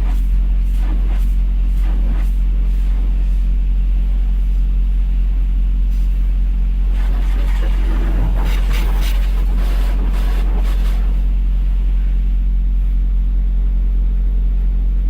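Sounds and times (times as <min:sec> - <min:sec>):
diesel truck engine running: 0:02.6 - 0:15.0.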